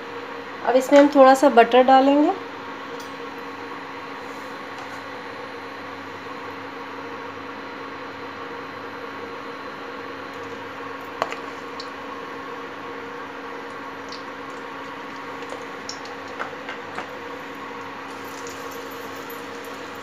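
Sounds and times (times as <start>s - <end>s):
steady electric hum: 0.0s - 20.0s.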